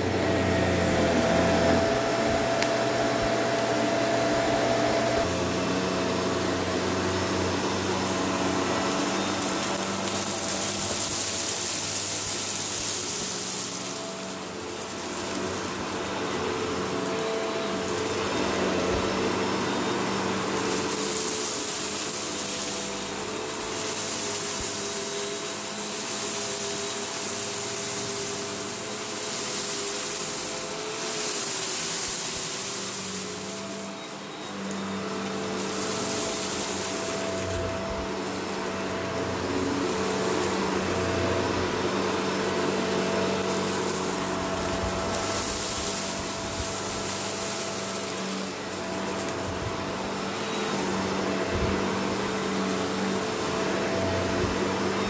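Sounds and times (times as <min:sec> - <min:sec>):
vacuum cleaner motor hum: 0:00.0 - 0:55.0
crumbs rattling into vacuum: 0:06.0 - 0:55.0.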